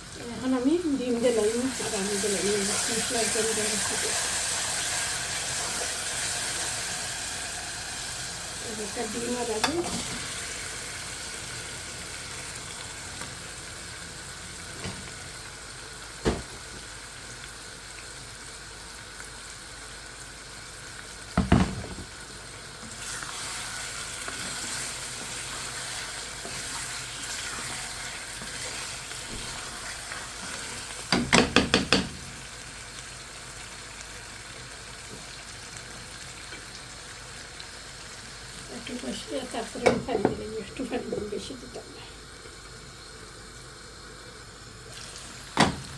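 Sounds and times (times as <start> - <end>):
food sizzling in hot oil: 0.0 - 45.9.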